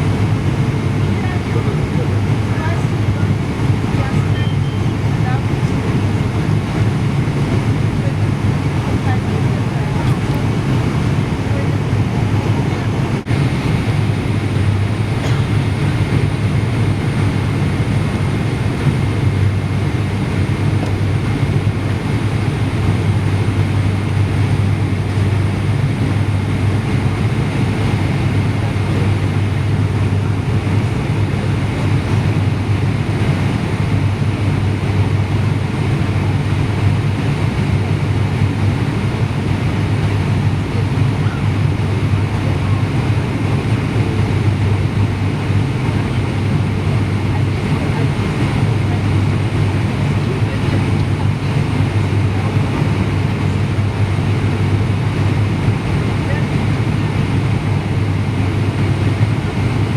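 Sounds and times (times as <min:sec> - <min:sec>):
faint steady whine: 0:00.0 - 0:59.9
jet engine cabin drone: 0:00.0 - 0:59.9.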